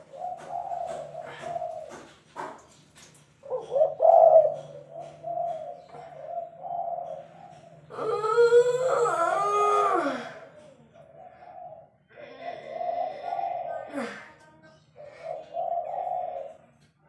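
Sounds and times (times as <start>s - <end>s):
dove cooing: 0.0s - 2.8s, 3.4s - 14.2s, 15.0s - 16.8s.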